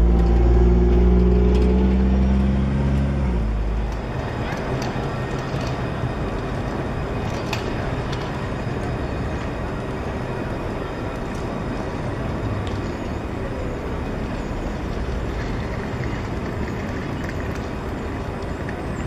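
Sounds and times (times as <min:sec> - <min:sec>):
traffic rumble: 0:00.0 - 0:19.0
tram running across bridge: 0:00.0 - 0:19.0.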